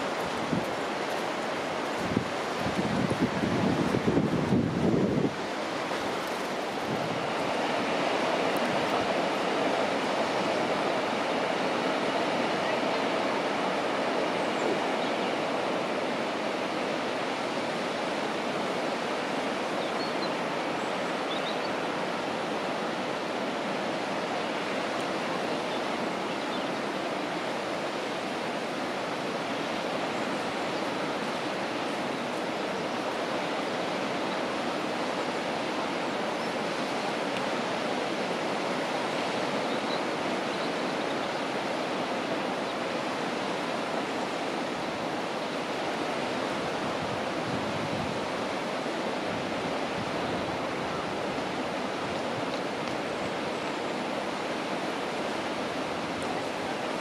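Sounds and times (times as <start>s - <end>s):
sea waves washing on beach: 0.0s - 57.0s.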